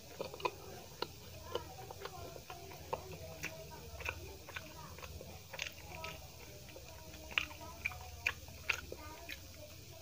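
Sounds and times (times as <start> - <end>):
chewing with wet mouth clicks: 0.0 - 10.0.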